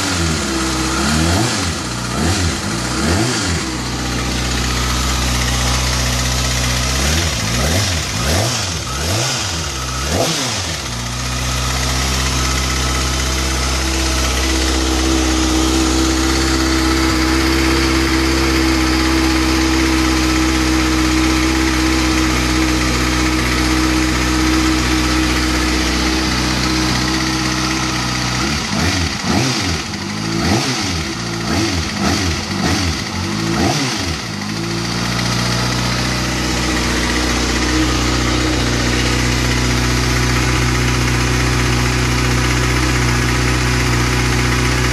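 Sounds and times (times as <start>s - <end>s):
loud engine ticking: 0.0s - 44.9s
motorcycle engine revving: 0.0s - 44.9s.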